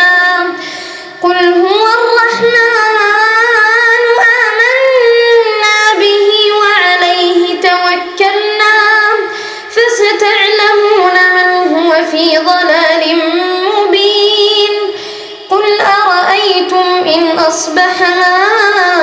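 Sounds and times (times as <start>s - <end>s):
high voice chanting recitation: 1.2s - 19.0s.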